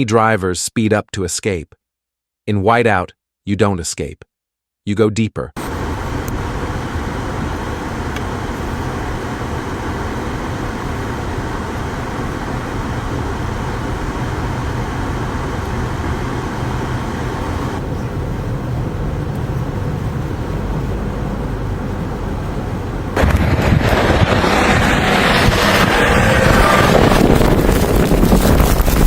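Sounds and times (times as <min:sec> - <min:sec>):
road traffic noise: 0:05.6 - 0:28.9
dull rumble: 0:05.6 - 0:29.0
wind noise rushing: 0:05.6 - 0:29.0.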